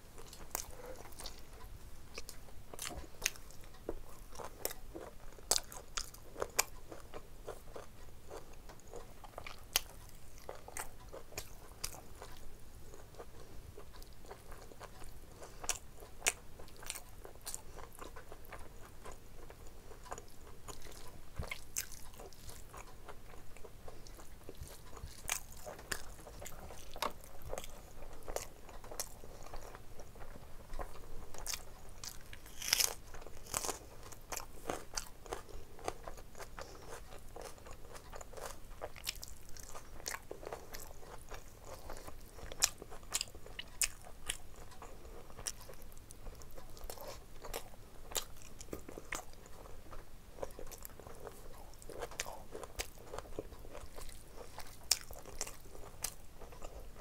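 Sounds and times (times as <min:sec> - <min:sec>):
person chewing: 0:00.2 - 0:57.0.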